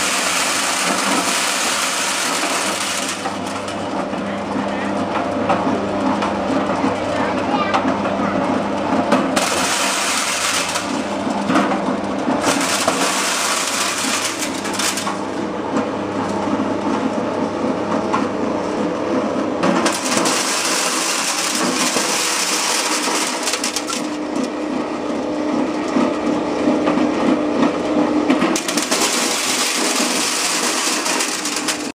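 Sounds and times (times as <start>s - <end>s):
corn sheller crushing noise: 0.0s - 32.0s.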